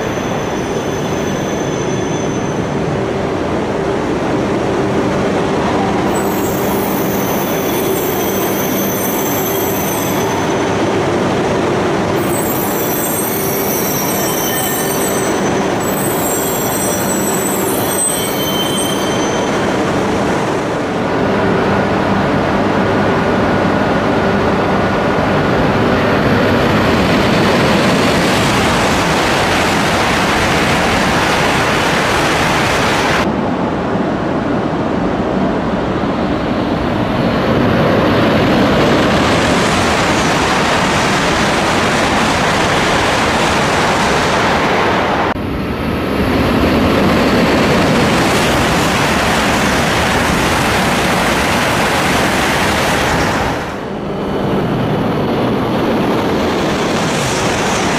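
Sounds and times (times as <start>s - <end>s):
bullet train passing at speed: 0.0s - 57.9s.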